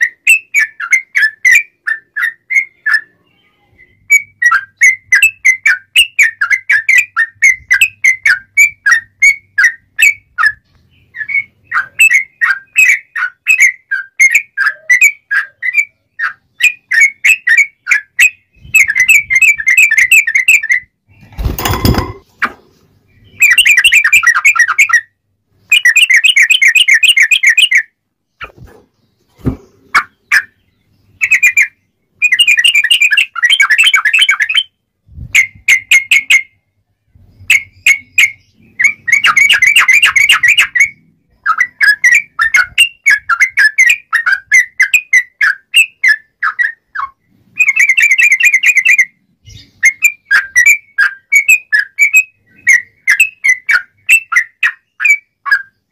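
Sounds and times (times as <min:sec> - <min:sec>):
bird warbling song: 0:00.0 - 0:55.9.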